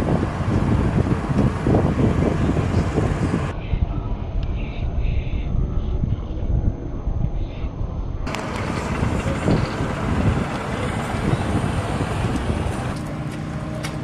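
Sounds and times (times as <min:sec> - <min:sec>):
low rumble: 0:00.0 - 0:13.0
airfield noise rush: 0:00.0 - 0:14.0
steady low hum: 0:00.0 - 0:14.0
wind rumbling on microphone: 0:00.0 - 0:14.0.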